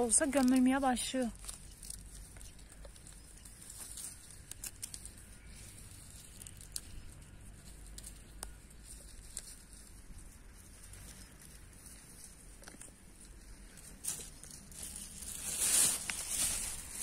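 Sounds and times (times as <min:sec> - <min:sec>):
dry plants crackling and rustling: 0:00.0 - 0:17.0.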